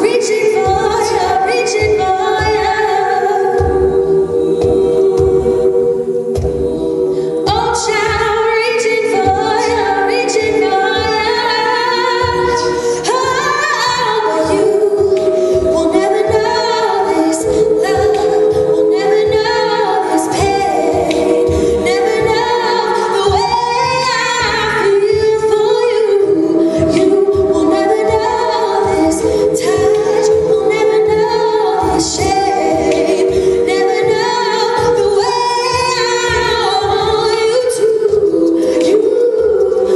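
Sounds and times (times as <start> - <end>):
vocal percussion beat: 0.0 - 39.9
women singing a cappella harmony: 0.0 - 39.9.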